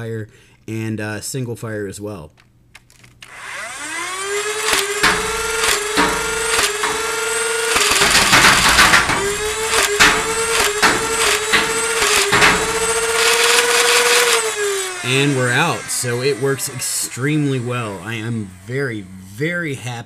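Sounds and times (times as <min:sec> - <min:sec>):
toy blaster motors whining: 0:03.2 - 0:19.6.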